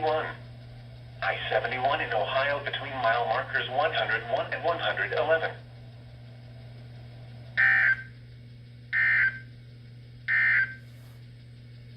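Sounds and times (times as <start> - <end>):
faint low hum: 0.0 - 11.9.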